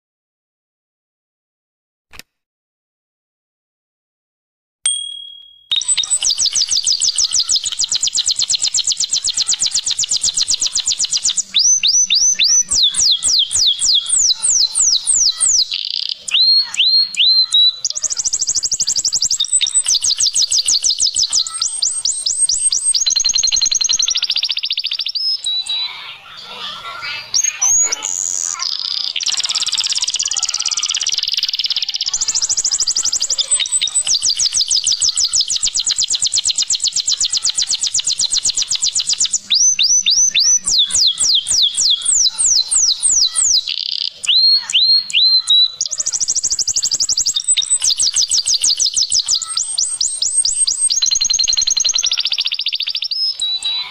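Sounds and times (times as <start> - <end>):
canary singing: 4.9 - 53.9.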